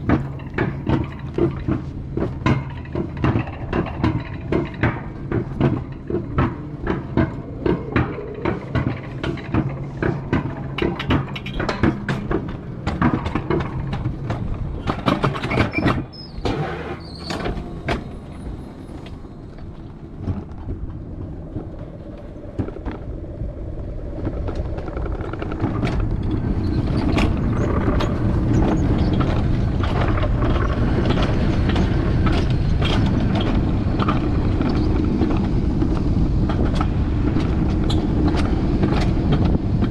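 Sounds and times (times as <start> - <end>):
sled clicks and clacks: 0.0 - 39.9
wheels rumbling along rails: 0.0 - 39.9.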